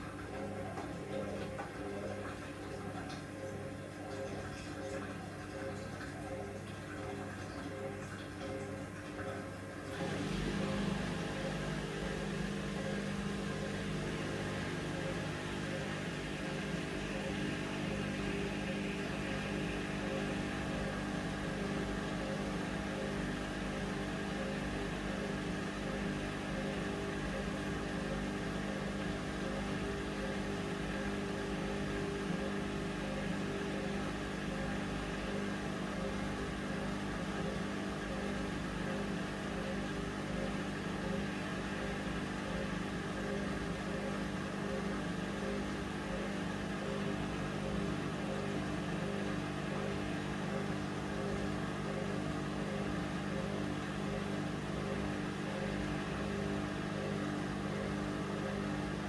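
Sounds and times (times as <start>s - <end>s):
washing machine motor humming: 0.0s - 59.0s.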